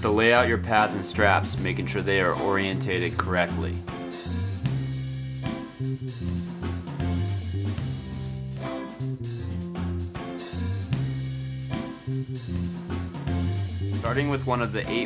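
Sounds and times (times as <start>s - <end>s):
guitar with bass and drums: 0.0s - 15.0s.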